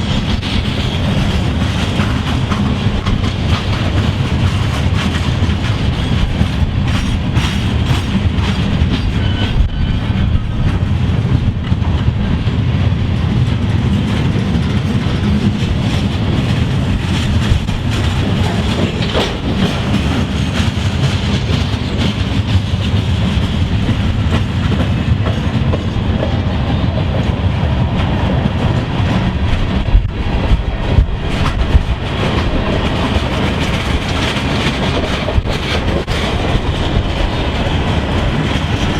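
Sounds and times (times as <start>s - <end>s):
train rumbling past: 0.0s - 38.9s
wheels clicking over rail joints: 0.0s - 38.9s.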